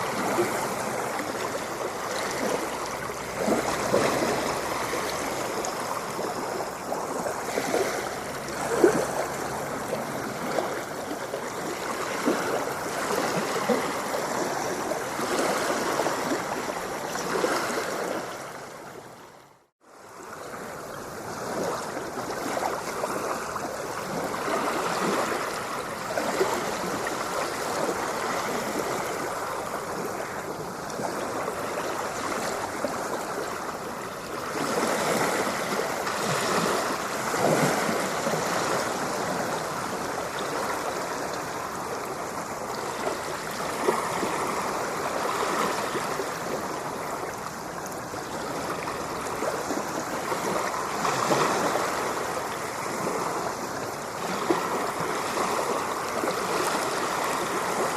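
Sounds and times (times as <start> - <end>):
ocean water splashing: 0.0 - 57.9.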